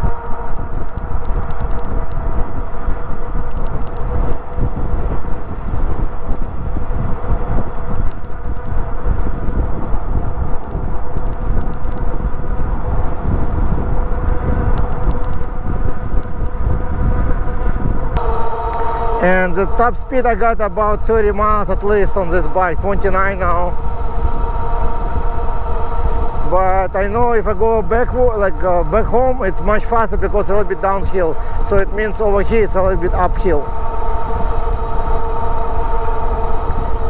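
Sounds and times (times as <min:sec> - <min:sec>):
e-bike motor whine: 0:00.0 - 0:37.0
wind rushing over microphone: 0:00.0 - 0:37.0.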